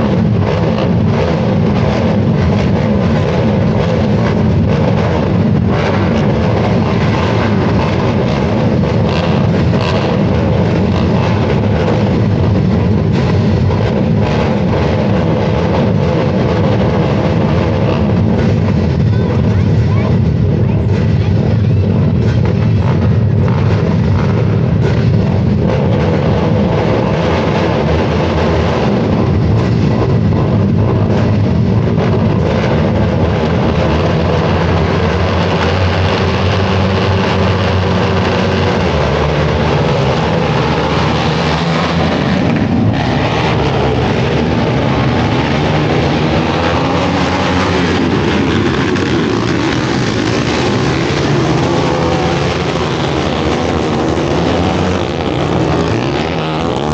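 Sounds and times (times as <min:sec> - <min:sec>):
quad engines racing: 0:00.0 - 0:56.9.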